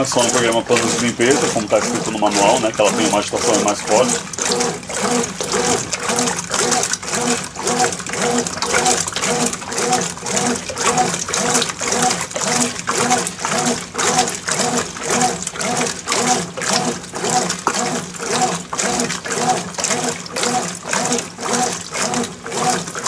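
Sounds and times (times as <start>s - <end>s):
washing machine sloshing water: 0.0s - 23.0s.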